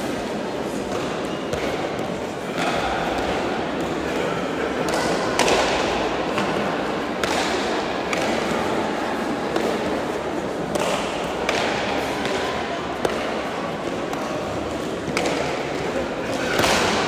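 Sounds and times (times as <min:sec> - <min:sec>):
room murmur: 0:00.0 - 0:17.0.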